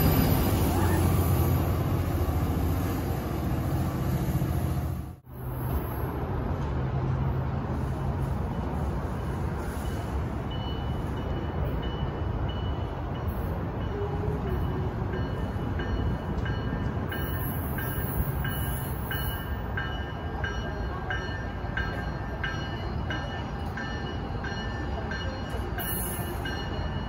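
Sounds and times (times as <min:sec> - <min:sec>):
diesel locomotive rumbling: 0:00.0 - 0:27.0.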